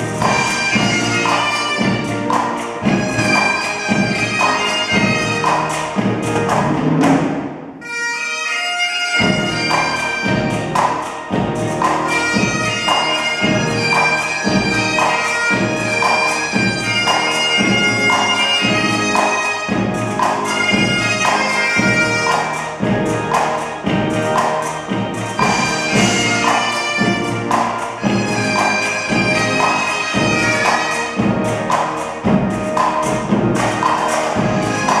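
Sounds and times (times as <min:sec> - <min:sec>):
bagpipes playing tune: 0:00.0 - 0:06.6, 0:07.8 - 0:35.0
snare and bass drums: 0:00.0 - 0:07.8, 0:09.1 - 0:35.0.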